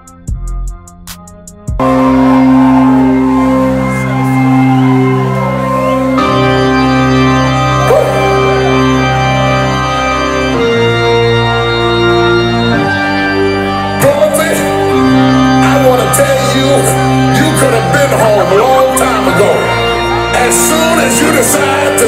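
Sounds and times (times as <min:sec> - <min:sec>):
electronic dance music: 0:00.0 - 0:22.0.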